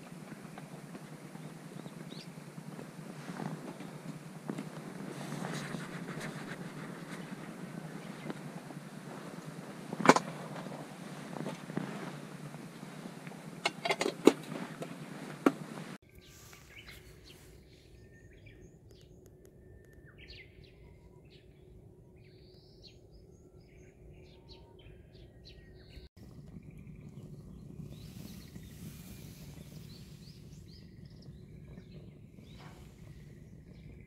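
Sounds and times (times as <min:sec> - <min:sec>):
small birds chirping: 0:00.0 - 0:13.7, 0:14.5 - 0:34.0
faint steady hum: 0:00.0 - 0:34.0.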